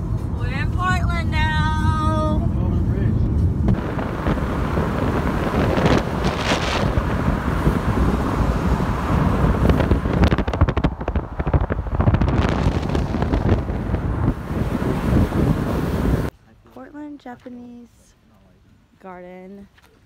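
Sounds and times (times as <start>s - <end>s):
wind buffeting microphone: 0.0s - 16.3s
road and engine rumble: 0.0s - 20.0s.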